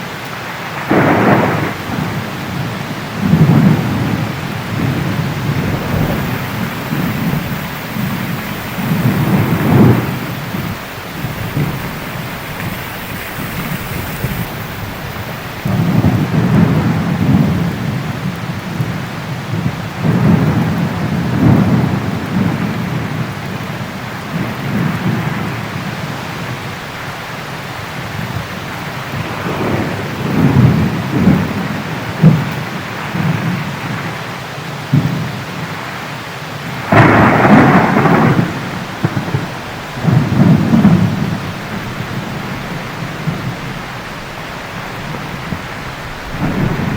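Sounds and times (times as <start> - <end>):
thunder rumbling: 0.0 - 34.2, 36.6 - 46.9
heavy rain: 0.0 - 46.9
sharp thunderclap: 0.8 - 34.0, 36.8 - 46.9.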